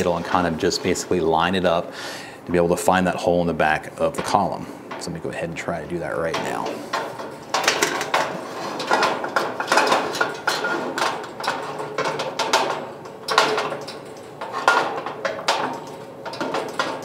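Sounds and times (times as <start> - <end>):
metal clanking and scraping: 0.0 - 1.8, 4.0 - 17.0.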